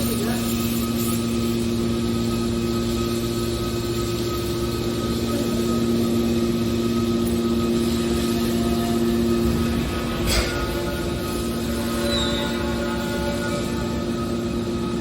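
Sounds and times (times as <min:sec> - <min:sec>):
baler machine hum: 0:00.0 - 0:15.0.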